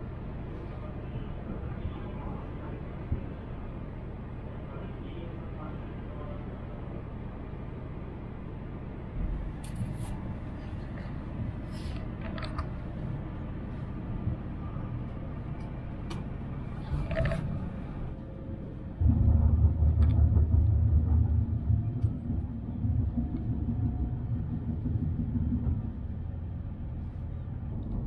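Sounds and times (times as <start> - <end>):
train cabin rumble: 0.0 - 28.0.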